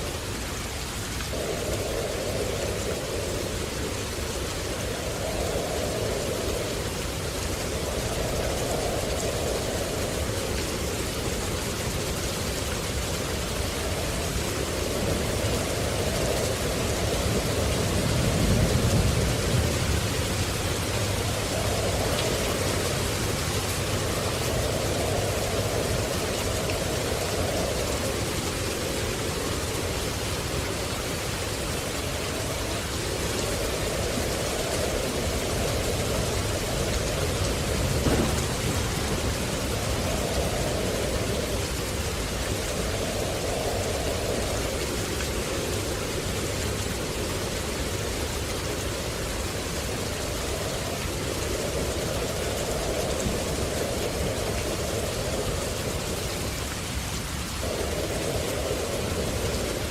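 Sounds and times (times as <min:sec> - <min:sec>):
steady rain: 0:00.0 - 0:59.9
thunder rumble: 0:00.0 - 0:59.9.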